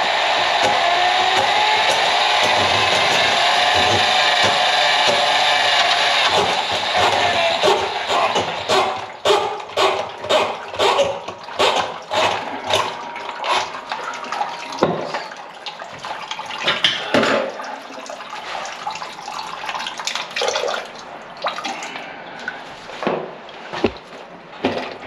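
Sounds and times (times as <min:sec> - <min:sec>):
water splashing into a bucket: 0:00.0 - 0:25.0.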